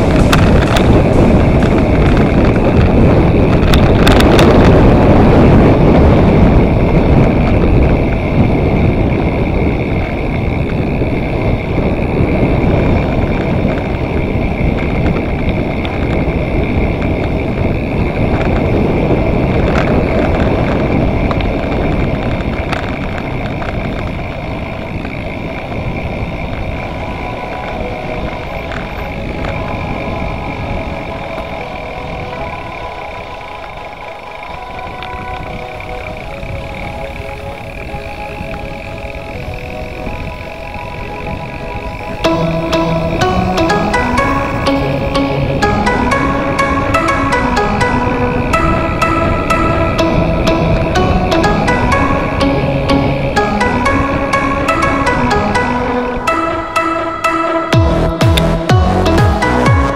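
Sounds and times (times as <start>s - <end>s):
bike tyre rumble: 0.0s - 56.3s
wind rushing over microphone: 0.0s - 59.9s.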